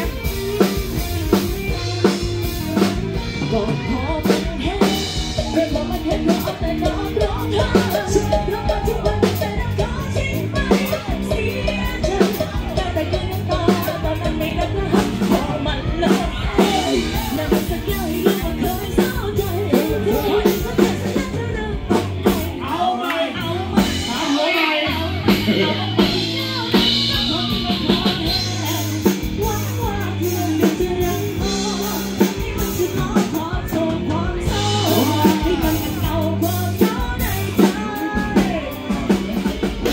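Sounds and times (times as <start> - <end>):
live band playing: 0.0 - 39.9
person singing: 0.0 - 39.9.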